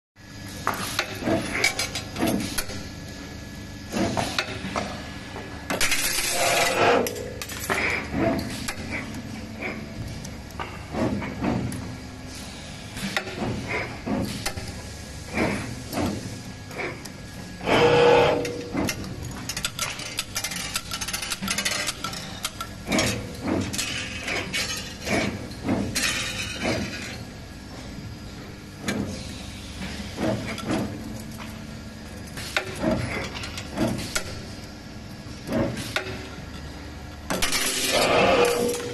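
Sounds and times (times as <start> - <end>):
low machine hum: 0.2 - 38.9.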